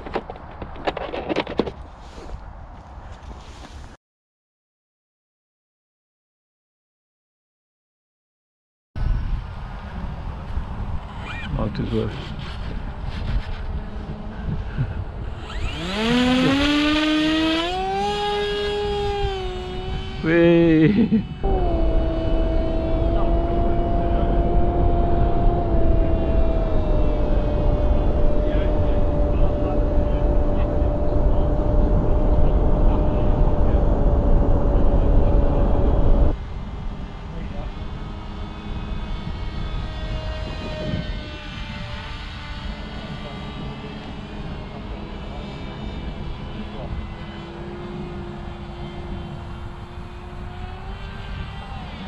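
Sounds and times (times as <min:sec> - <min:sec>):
electric motor and propeller whine: 0:09.0 - 0:52.0
wind on microphone: 0:09.0 - 0:52.0.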